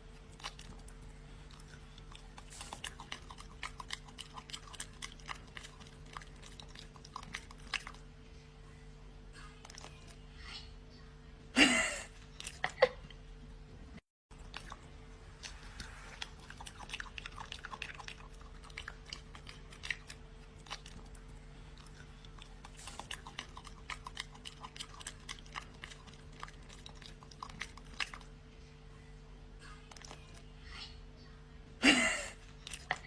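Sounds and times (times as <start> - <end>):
dog chewing and crunching food: 0.0 - 8.6, 9.4 - 10.7, 12.2 - 13.2, 14.3 - 29.1, 29.7 - 31.0, 32.4 - 33.0.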